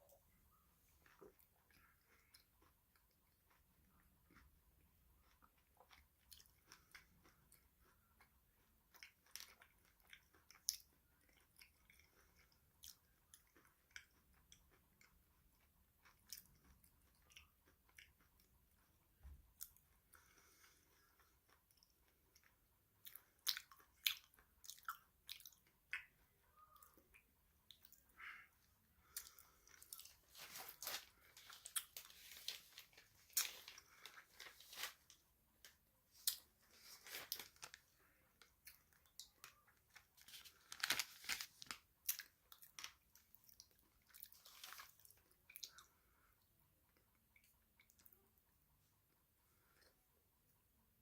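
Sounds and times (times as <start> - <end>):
crunchy chewing of crisp snack: 1.0 - 48.2.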